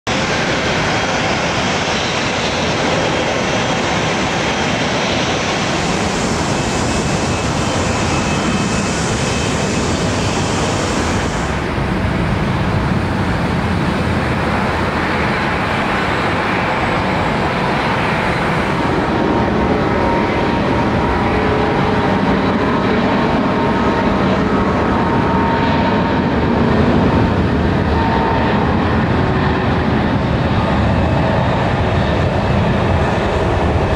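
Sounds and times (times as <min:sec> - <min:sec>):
jet engines running: 0:00.1 - 0:33.9.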